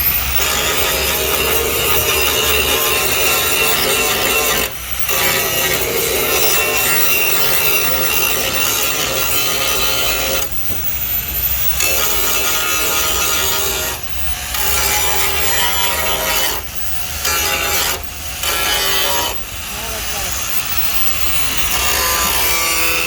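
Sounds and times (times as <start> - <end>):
power tool grinding: 0.0 - 23.0.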